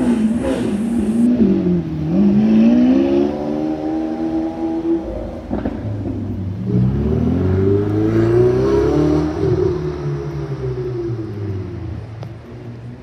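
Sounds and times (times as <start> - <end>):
sports car engine accelerating: 0.0 - 13.0.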